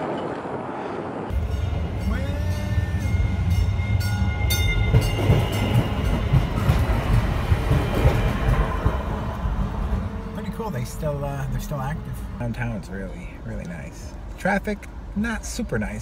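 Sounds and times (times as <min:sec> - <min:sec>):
rising train whine: 0:00.0 - 0:15.8
train passing with deep rumble: 0:00.0 - 0:16.0.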